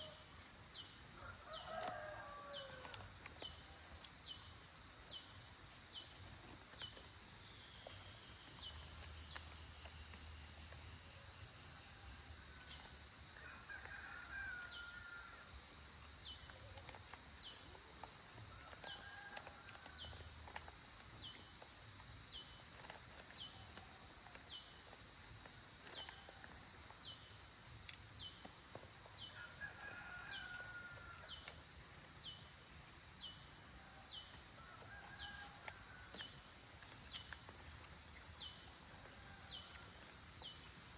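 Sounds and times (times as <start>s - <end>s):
insects shrilling: 0.0s - 40.9s.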